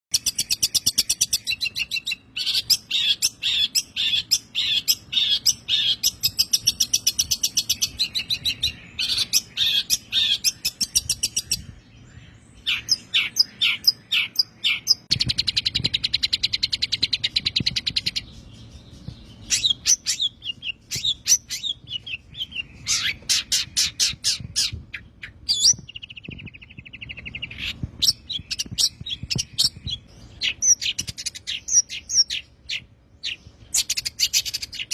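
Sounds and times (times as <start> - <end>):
bird singing high chattering trills: 0.1 - 34.9
low buzzy bird trill: 0.1 - 34.9.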